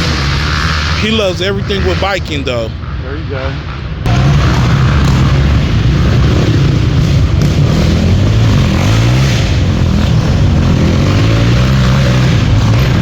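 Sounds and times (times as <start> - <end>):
dirt bike engine running: 0.0 - 3.0, 3.6 - 13.0.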